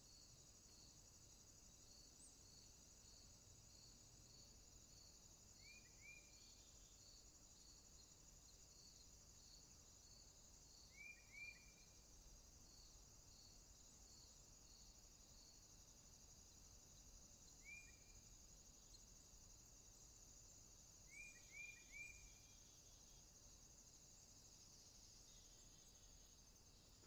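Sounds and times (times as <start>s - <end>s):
insect chorus chirping: 0.0s - 27.0s.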